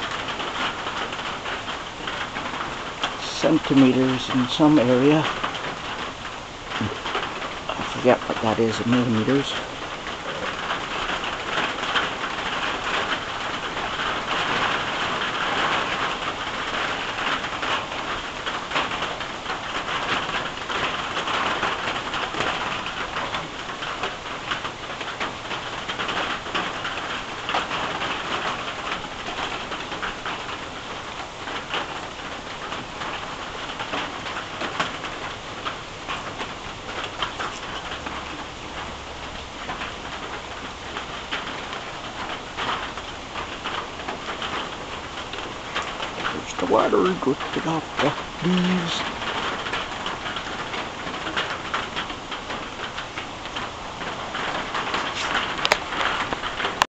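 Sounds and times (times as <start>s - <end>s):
heavy rain on a tin roof: 0.0s - 56.9s
rain on leafy trees: 0.0s - 56.9s.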